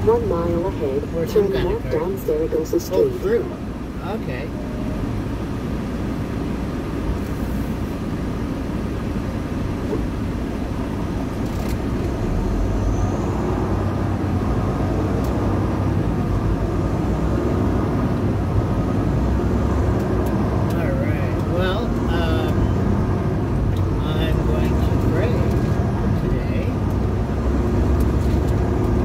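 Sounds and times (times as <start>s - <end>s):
truck engine and road rumble: 0.0s - 29.0s.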